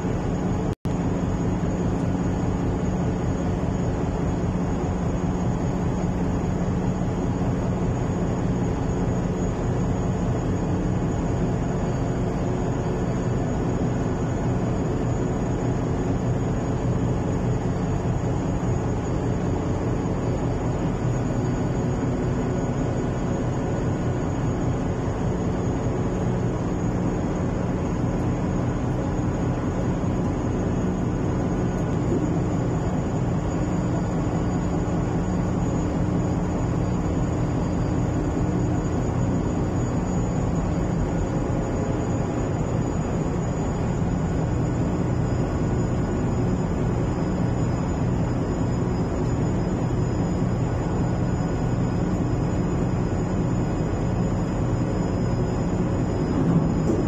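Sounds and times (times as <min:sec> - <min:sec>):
boat engines droning: 0:00.0 - 0:57.0
faint high whine: 0:00.0 - 0:57.0.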